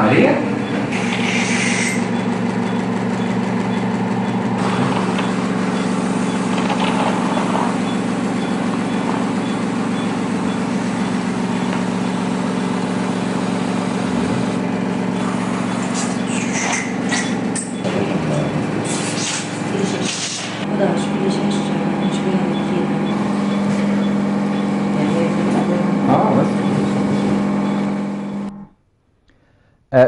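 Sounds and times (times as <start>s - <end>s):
mechanical equipment hum: 0.0s - 29.5s.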